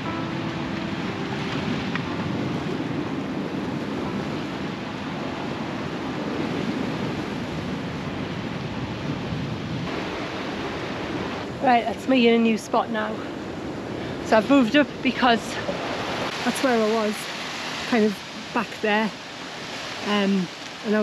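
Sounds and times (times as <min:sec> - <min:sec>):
surf breaking on rocks: 0:00.0 - 0:21.0
wind buffeting microphone: 0:00.0 - 0:21.0.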